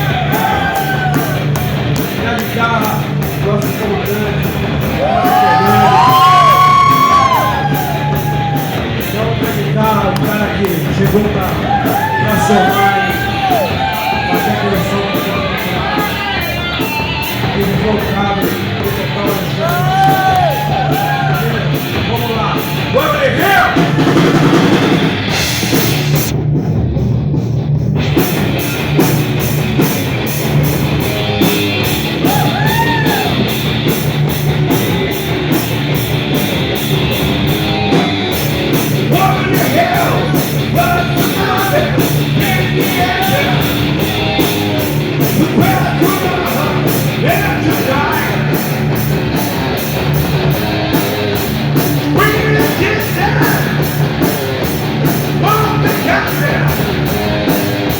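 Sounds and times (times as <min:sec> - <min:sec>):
bass guitar: 0:00.0 - 0:57.9
distorted electric guitar: 0:00.0 - 0:57.9
drums with steady beat: 0:00.0 - 0:57.9.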